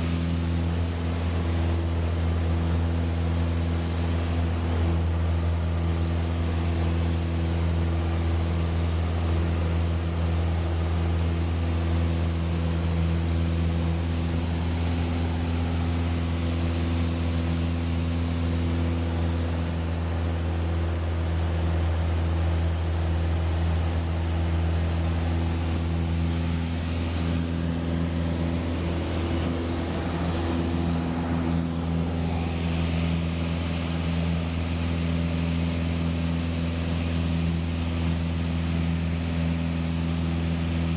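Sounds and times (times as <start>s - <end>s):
airplane propeller engine droning: 0.0s - 40.9s.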